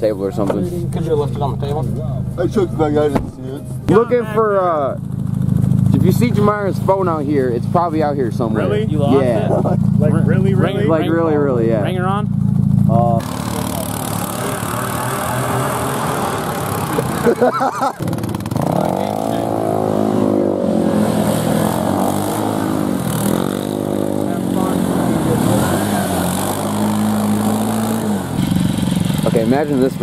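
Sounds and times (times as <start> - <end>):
vehicle engine idling and revving: 0.0 - 30.0.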